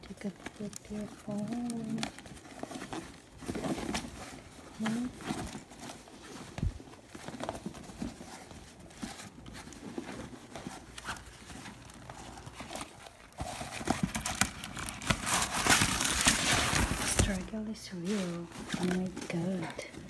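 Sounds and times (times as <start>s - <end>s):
handbag being rummaged through: 0.0s - 20.0s.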